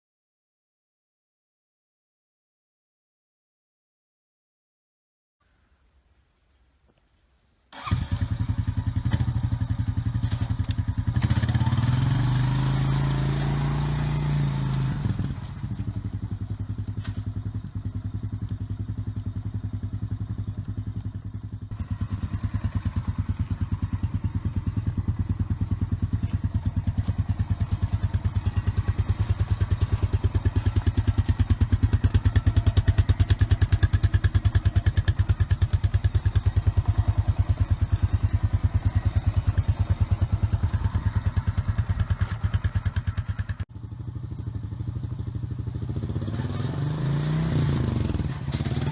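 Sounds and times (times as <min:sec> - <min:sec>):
quad bike engine idling: 0:07.8 - 0:48.9.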